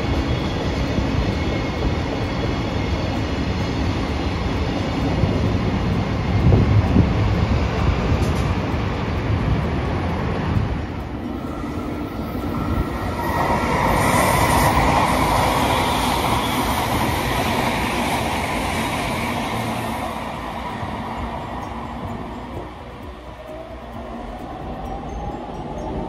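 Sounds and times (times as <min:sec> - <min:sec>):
train running past: 0:00.0 - 0:26.0.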